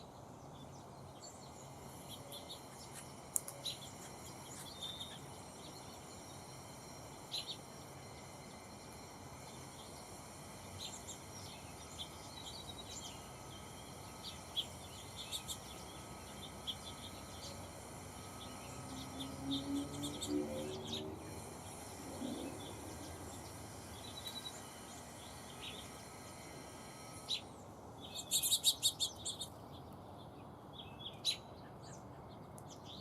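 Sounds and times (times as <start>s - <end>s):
small birds chirping: 0.0s - 33.0s
steady outdoor hiss: 0.0s - 33.0s.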